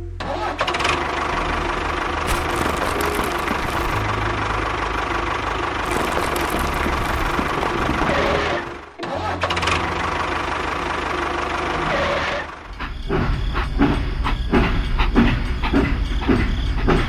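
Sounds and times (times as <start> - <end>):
small engine running: 0.8 - 14.5.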